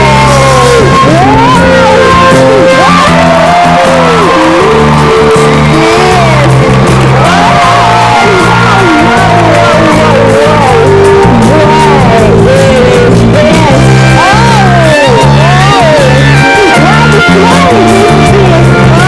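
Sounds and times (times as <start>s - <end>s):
gliding melody line: 0.0s - 19.0s
low bass notes: 0.0s - 19.0s.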